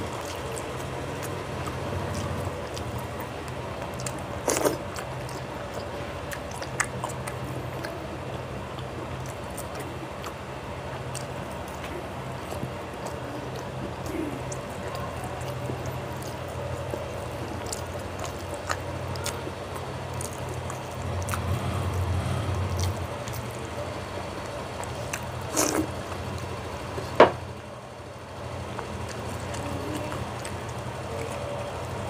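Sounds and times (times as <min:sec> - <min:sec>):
steady low hum: 0:00.0 - 0:32.0
wet chewing: 0:00.0 - 0:32.0.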